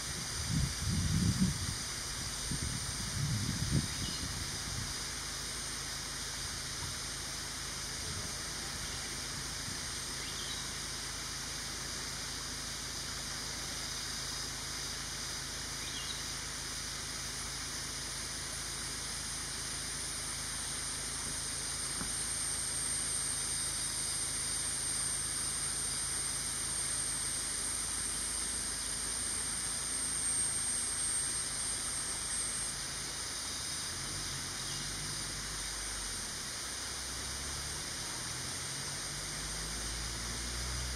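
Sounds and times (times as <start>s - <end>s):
forest insects hissing: 0.0s - 40.9s.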